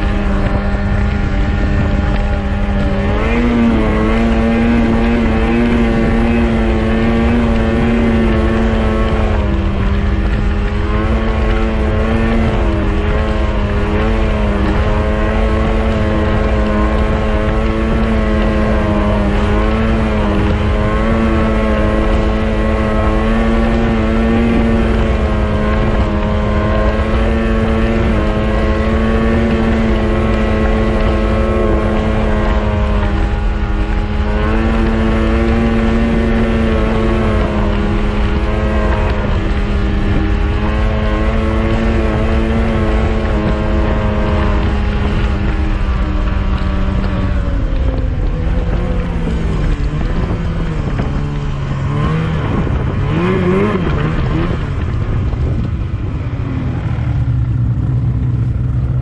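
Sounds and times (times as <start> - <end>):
snowmobile engine running: 0.0 - 59.0
wind buffeting microphone: 0.0 - 59.0.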